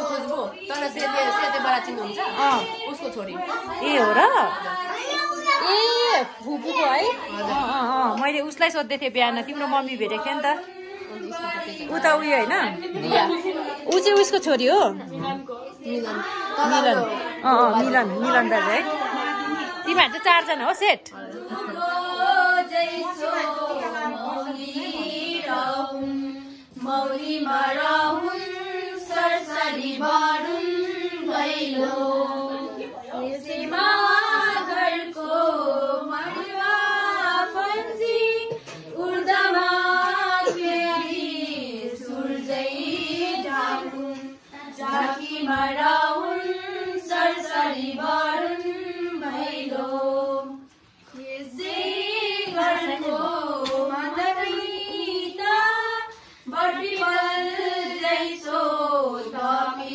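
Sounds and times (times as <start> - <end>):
women and girls singing: 0.0 - 59.9.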